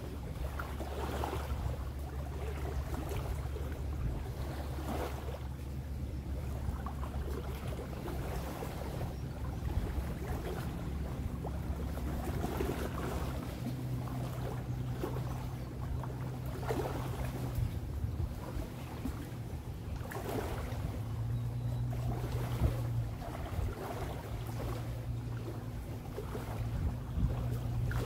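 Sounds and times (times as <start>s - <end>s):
higher engine tone: 0.0s - 28.0s
motorboat engine drone: 0.0s - 28.0s
waves lapping at shore: 0.0s - 28.0s
wind: 0.0s - 28.0s.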